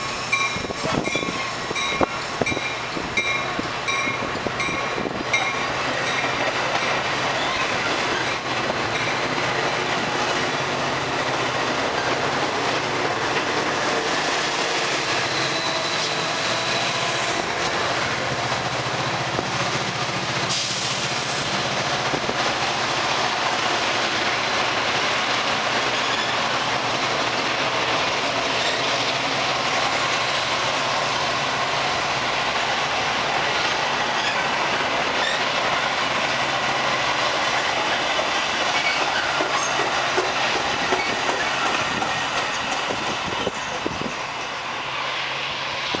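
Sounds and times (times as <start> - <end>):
train wheels rolling on rails: 0.0 - 46.0.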